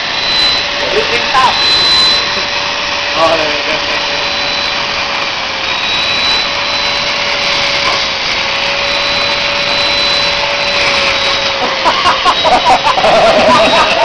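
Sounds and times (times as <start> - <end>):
vacuum cleaner whining: 0.0 - 14.0.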